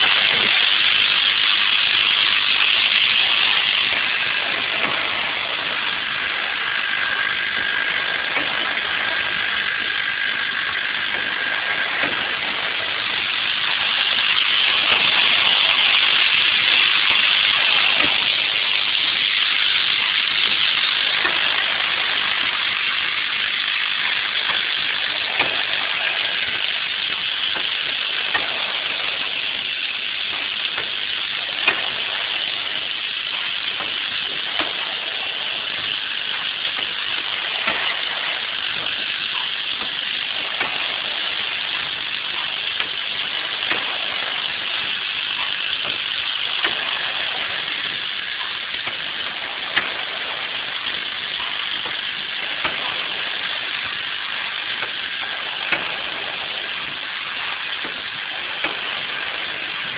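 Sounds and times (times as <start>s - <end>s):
machine hiss: 0.0s - 59.9s
sharp machine click: 0.0s - 59.9s.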